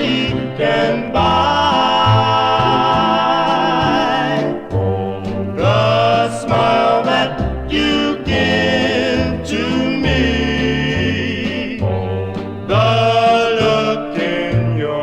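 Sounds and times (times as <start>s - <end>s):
male vocal group singing harmony: 0.0s - 15.0s.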